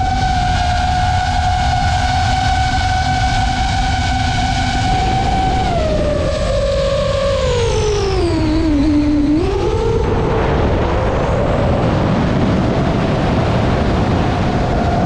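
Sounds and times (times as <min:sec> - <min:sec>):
drone propellers whining: 0:00.0 - 0:15.0
wind rush: 0:00.0 - 0:15.0.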